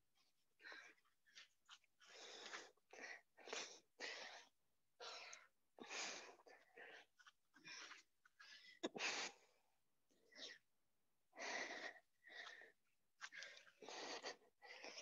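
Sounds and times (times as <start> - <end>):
heavy breathing puffs: 0.6 - 9.6, 11.4 - 15.0.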